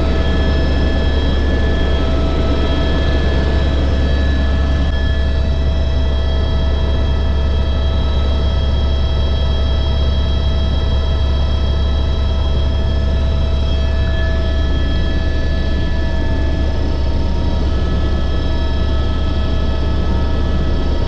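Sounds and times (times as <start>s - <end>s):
helicopter rotor and turbine drone: 0.0s - 21.0s.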